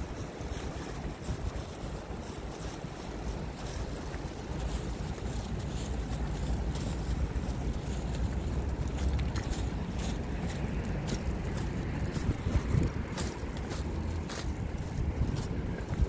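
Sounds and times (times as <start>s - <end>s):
city street traffic hiss: 0.0s - 16.0s
wind buffeting microphone: 0.0s - 16.0s.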